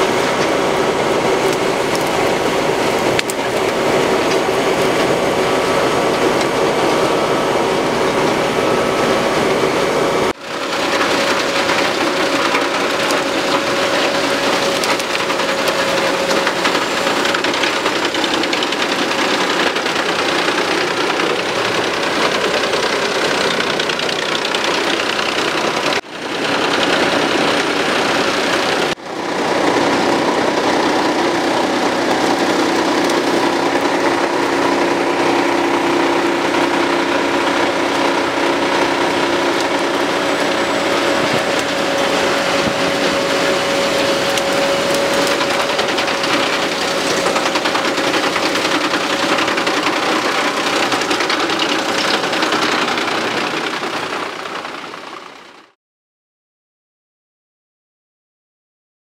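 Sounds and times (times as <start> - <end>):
tractor engine running: 0.0 - 55.8
wood chipper chipping branches: 0.0 - 55.8.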